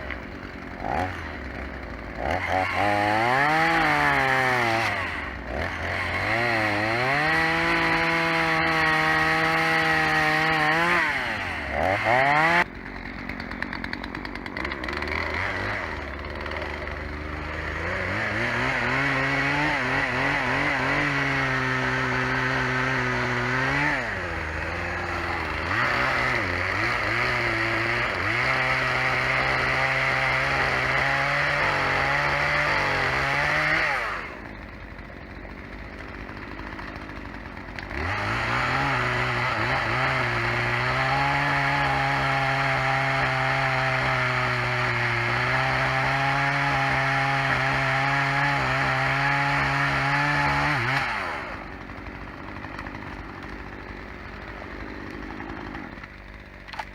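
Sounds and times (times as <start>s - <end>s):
chainsaw cutting at full throttle: 0.0s - 56.9s
chainsaw idling: 0.0s - 56.9s.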